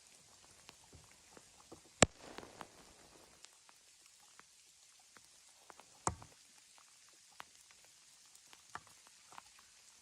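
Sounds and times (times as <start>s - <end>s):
low hiss: 0.0s - 10.0s
wood fire crackling: 0.0s - 10.0s.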